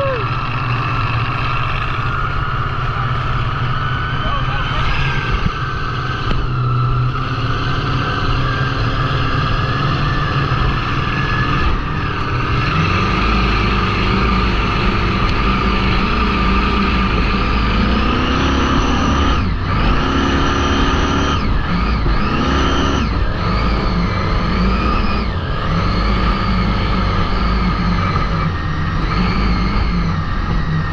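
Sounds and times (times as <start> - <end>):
boat engine running hard: 0.0 - 30.9.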